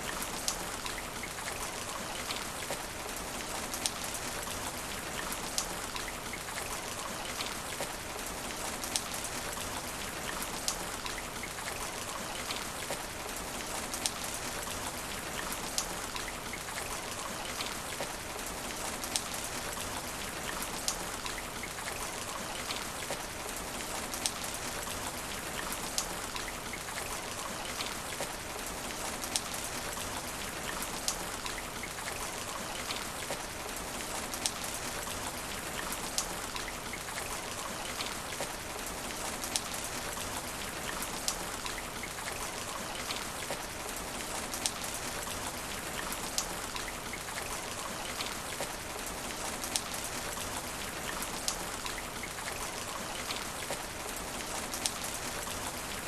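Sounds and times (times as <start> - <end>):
rain falling on asphalt: 0.0 - 56.0.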